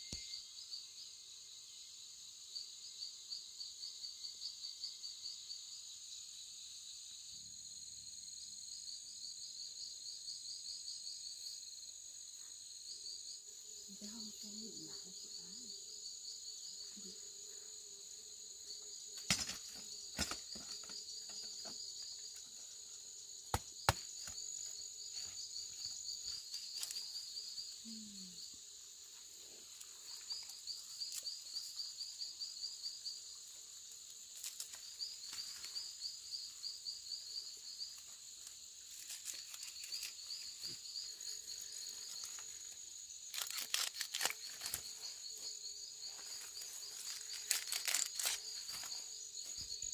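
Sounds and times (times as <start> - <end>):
insects chirping in pulsed trills: 0.0 - 49.9.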